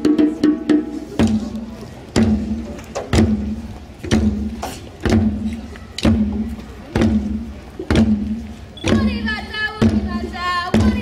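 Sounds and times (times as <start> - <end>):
drum ensemble playing slow pulse: 0.0 - 11.0.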